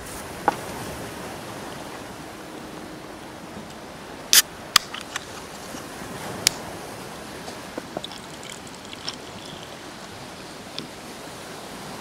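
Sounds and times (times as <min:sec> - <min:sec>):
sea surf washing: 0:00.0 - 0:12.0.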